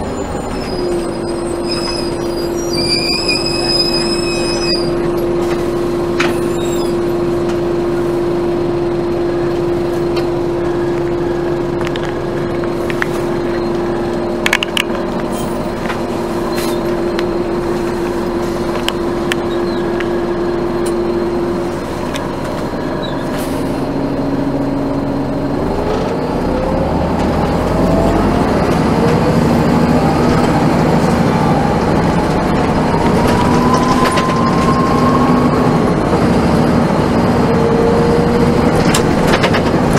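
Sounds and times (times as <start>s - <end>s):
bus engine idling: 0.0s - 39.9s
bus engine whine rising: 0.0s - 39.9s.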